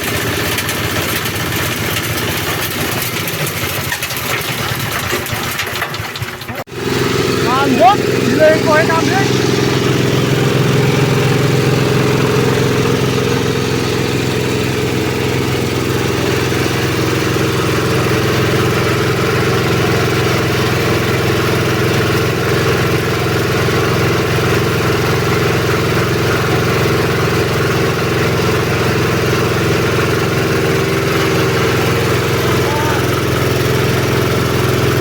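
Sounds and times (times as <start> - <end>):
shredder machine engine humming: 0.0 - 35.0.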